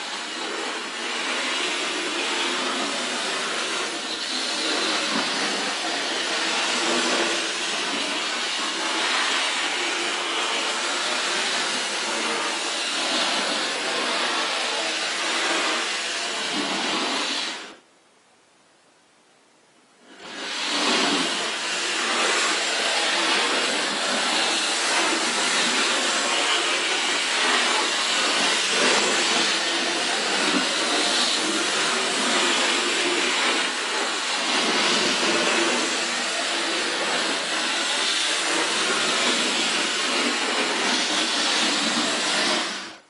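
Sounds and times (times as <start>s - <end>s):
model train whirring on rails: 0.0s - 17.7s, 20.1s - 43.0s.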